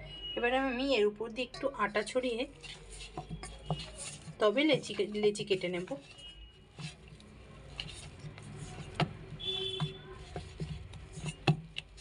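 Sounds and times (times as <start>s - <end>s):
hands kneading dough in bowl: 1.6s - 12.0s.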